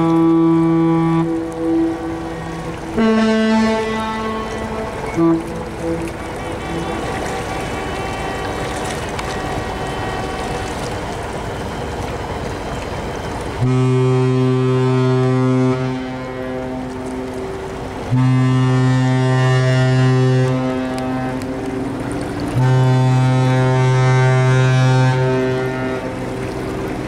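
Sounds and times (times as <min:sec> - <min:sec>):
ship's horn blasts: 0:00.0 - 0:27.0.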